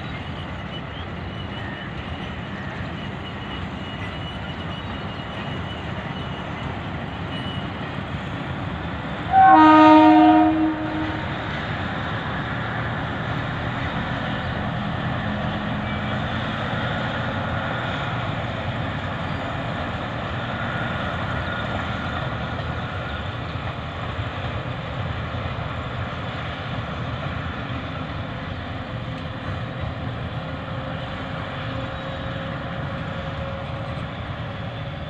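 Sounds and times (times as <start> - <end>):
locomotive engine drone: 0.0 - 35.0
rumble of train coaches: 0.0 - 35.0.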